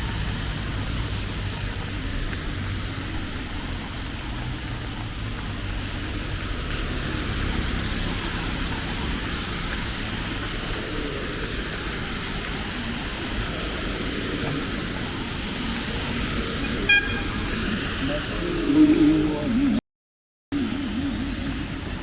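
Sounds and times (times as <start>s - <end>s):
steady rain: 0.0s - 19.8s, 20.6s - 22.0s.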